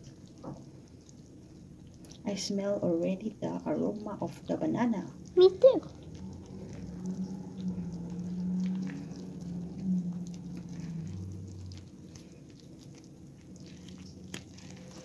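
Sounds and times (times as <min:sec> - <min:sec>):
low steady hum: 0:00.0 - 0:15.0
whisk stirring wet batter: 0:00.0 - 0:15.0.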